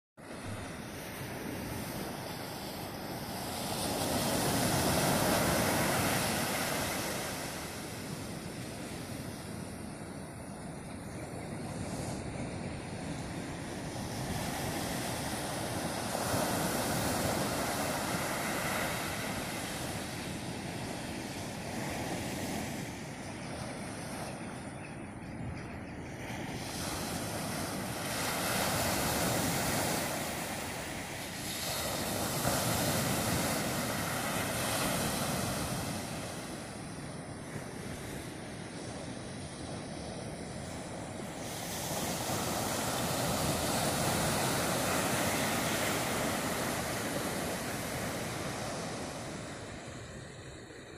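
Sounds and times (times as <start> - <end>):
small waves breaking on beach: 0.2 - 24.9, 26.1 - 50.9.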